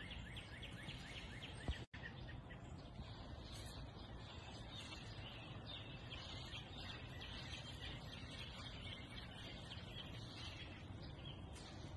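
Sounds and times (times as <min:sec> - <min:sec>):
small birds twittering: 0:00.0 - 0:11.9.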